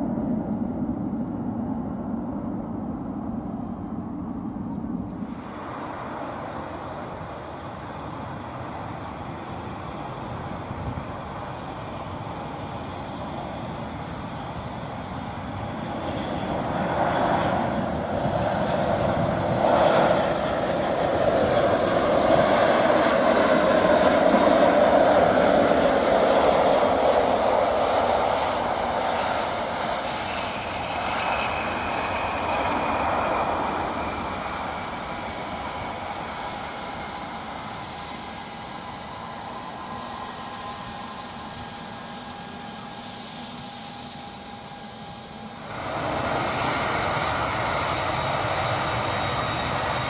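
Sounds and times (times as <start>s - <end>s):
jet engines rushing: 0.0s - 50.0s
steady aircraft engine noise: 0.0s - 50.0s.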